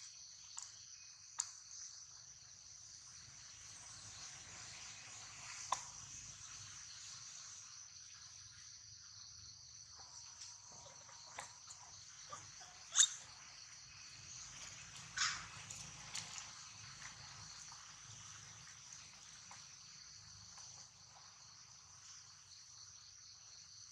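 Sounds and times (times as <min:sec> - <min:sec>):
insects chorus: 0:00.0 - 0:23.9.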